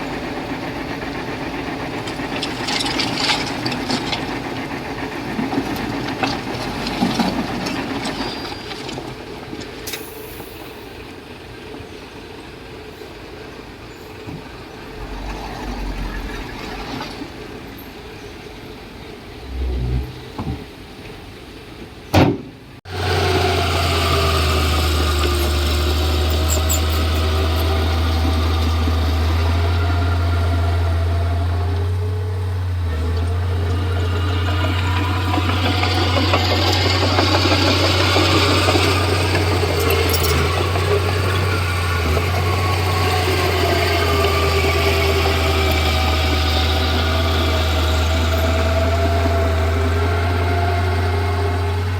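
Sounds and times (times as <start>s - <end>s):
heavy diesel engine running: 0.0s - 11.6s, 12.6s - 18.4s, 22.9s - 51.9s.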